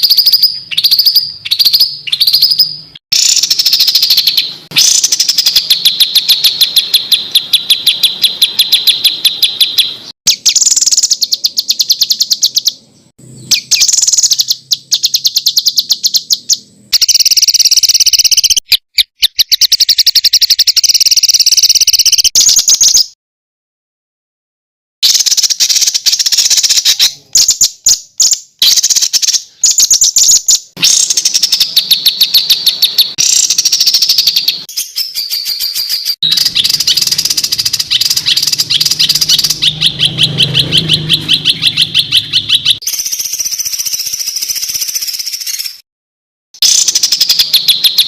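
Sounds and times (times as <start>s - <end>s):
songbirds singing sharp high notes: 0.0s - 23.2s, 25.0s - 45.8s, 46.6s - 48.0s.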